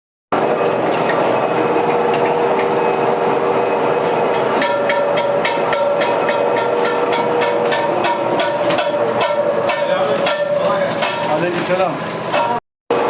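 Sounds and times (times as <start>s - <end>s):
rim repair machine humming: 0.4s - 13.0s.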